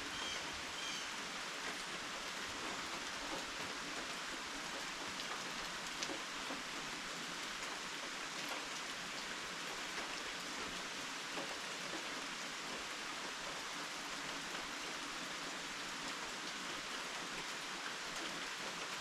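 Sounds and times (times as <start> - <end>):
steady rainfall: 0.0 - 19.0
faint ticks of raindrops: 0.1 - 19.0.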